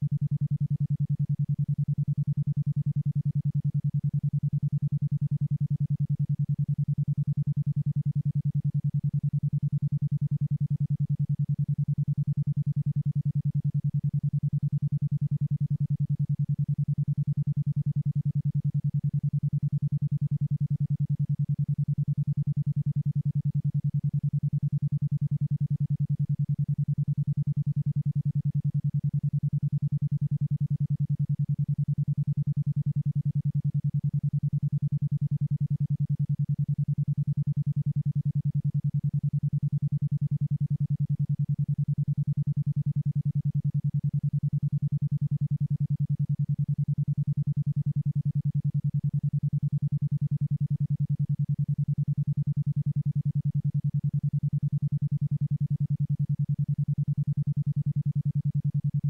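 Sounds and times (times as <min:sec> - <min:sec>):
pulsing low tone: 0:00.0 - 0:59.0.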